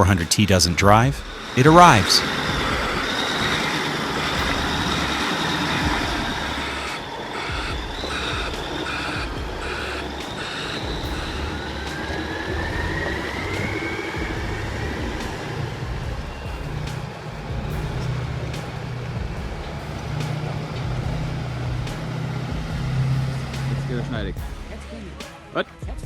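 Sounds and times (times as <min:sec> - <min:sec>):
rising whine: 0:00.0 - 0:24.5
high-pitched squeal: 0:00.0 - 0:24.8
heavy vehicle engine rumble: 0:00.0 - 0:25.4.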